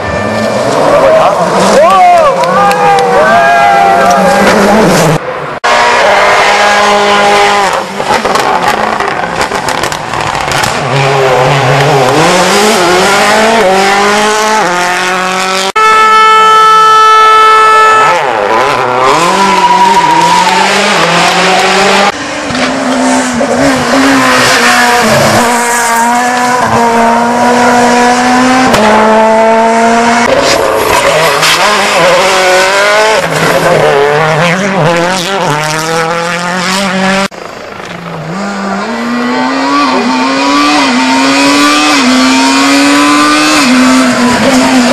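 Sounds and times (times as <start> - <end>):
rally cars passing at speed: 0.0 - 44.9.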